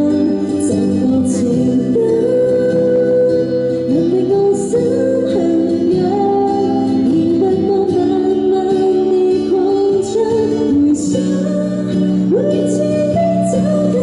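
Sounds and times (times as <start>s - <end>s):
woman singing pop ballad: 0.0s - 14.0s.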